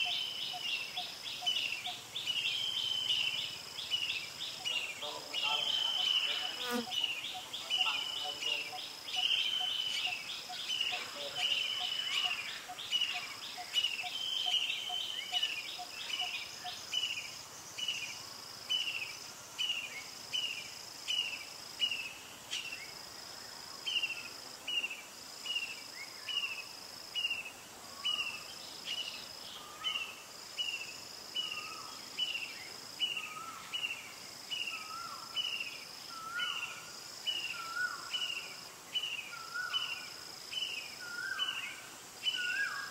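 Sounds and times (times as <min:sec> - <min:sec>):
high insect trill: 0:00.0 - 0:42.9.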